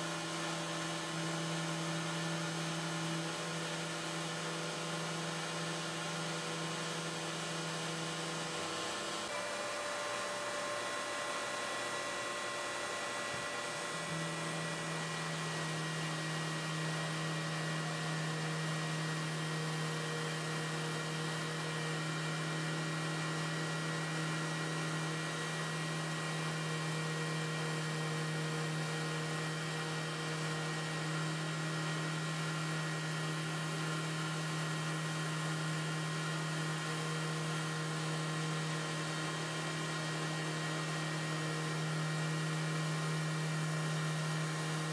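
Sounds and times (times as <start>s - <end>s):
router spindle hiss and whine: 0.0s - 44.9s.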